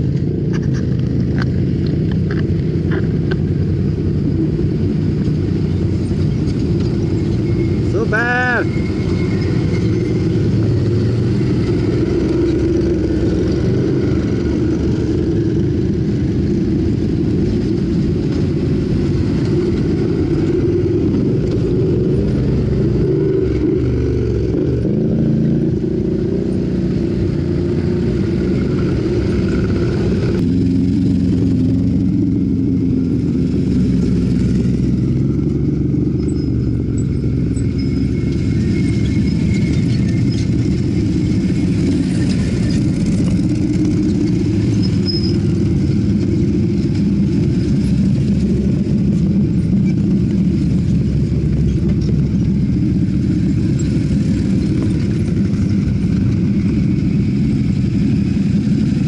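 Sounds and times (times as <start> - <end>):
quad bike engines revving: 0.0 - 59.0.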